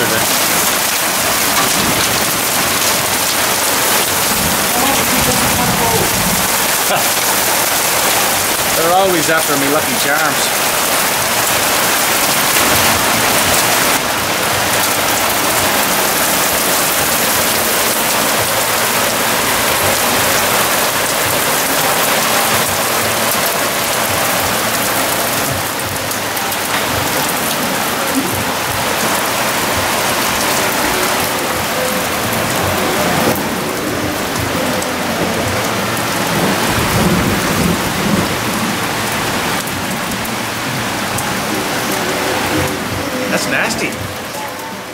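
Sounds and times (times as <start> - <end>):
hail and rain pelting wood and metal: 0.0 - 44.9.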